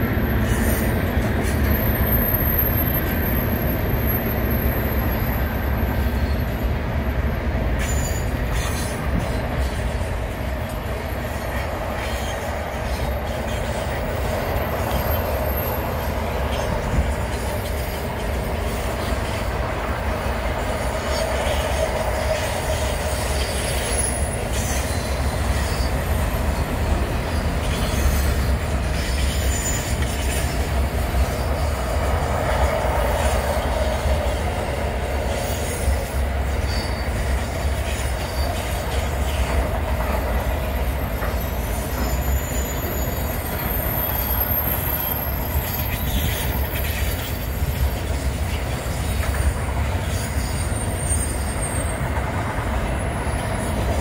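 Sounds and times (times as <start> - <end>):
freight train wagons rumbling: 0.0 - 54.0
high wheel squeal: 0.0 - 54.0.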